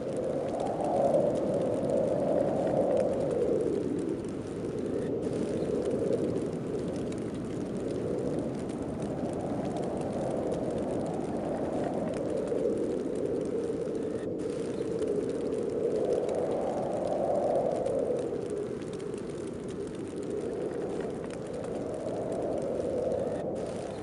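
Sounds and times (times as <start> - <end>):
snowstorm wind rushing: 0.0 - 24.0.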